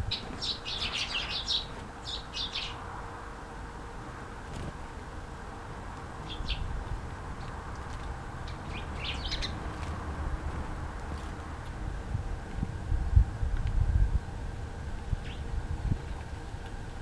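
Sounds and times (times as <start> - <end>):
songbirds chirping: 0.0 - 11.9, 14.3 - 16.8
low steady background rumble: 0.0 - 17.0.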